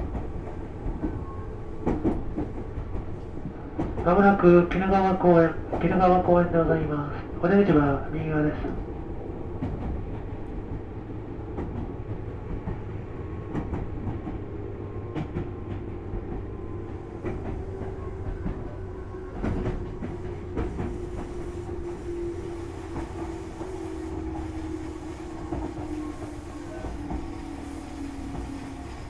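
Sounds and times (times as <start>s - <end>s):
train running rumble and hum: 0.0s - 29.0s.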